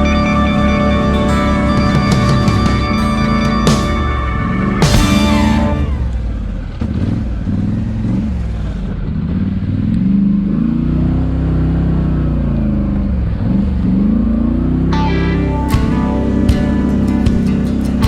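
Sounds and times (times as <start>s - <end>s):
vehicle engine revving: 0.1s - 18.0s.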